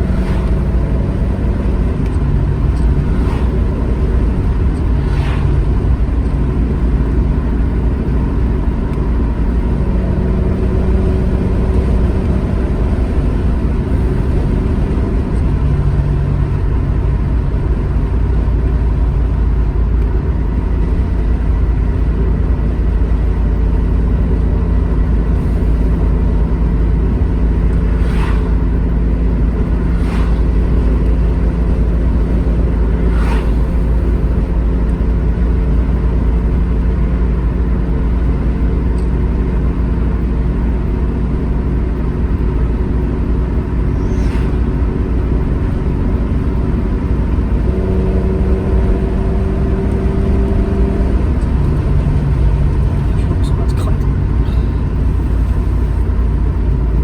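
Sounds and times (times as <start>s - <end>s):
car engine running: 0.0s - 57.0s
road rumble: 0.0s - 57.0s.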